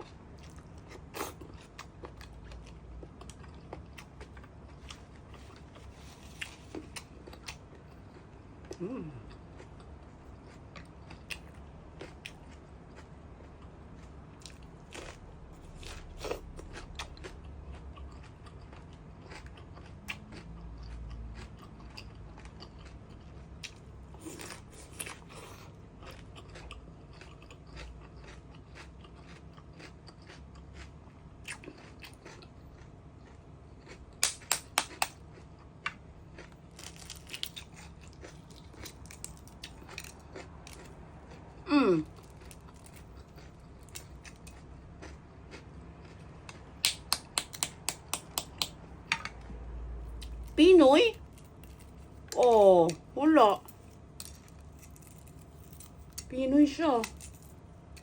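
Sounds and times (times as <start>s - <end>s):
person chewing food: 0.0s - 50.6s, 51.2s - 56.3s.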